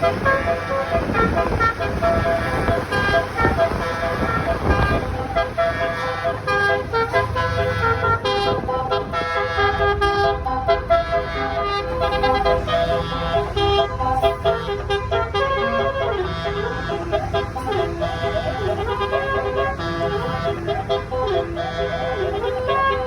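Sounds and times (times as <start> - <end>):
bus horn playing melodic tune: 0.0 - 23.0.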